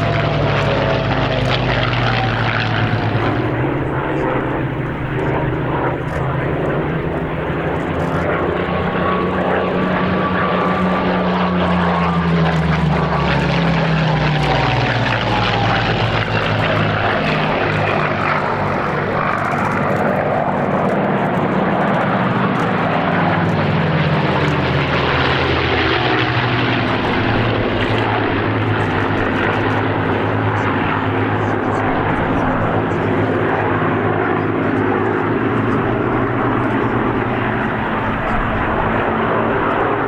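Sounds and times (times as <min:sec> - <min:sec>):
propeller aircraft flying past: 0:00.0 - 0:40.0.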